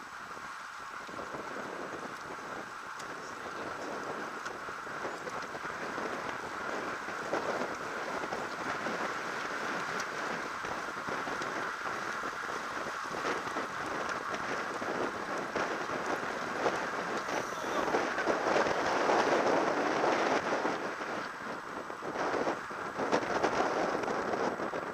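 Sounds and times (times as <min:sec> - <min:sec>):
tyre noise on tarmac: 0:00.0 - 0:24.9
wind buffeting microphone: 0:00.0 - 0:24.9.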